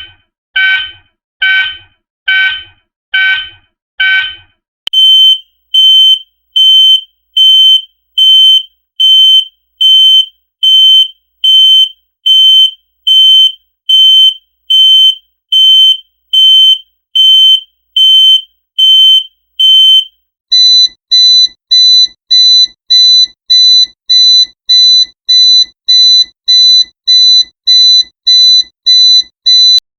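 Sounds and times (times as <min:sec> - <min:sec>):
fire alarm beeping: 0:00.6 - 0:29.8.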